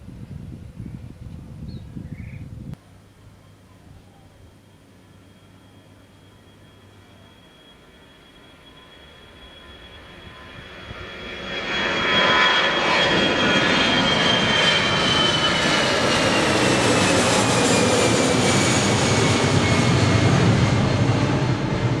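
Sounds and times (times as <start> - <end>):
high engine whine: 2.8 - 22.0
airliner engines roaring: 4.2 - 22.0.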